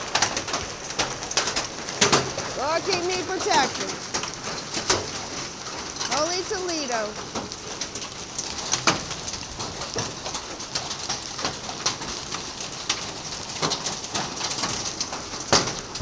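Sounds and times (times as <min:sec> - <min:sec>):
hailstones striking hard surfaces: 0:00.0 - 0:16.0
heavy rain hissing: 0:00.0 - 0:16.0.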